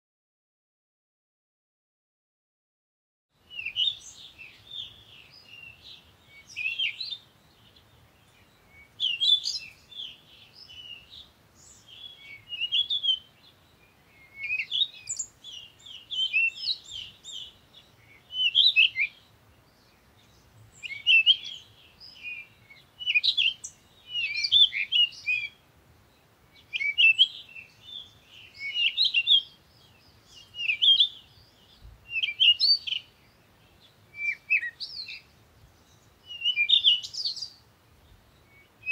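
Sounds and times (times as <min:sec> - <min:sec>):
birds chirping and twittering: 0:03.4 - 0:38.9.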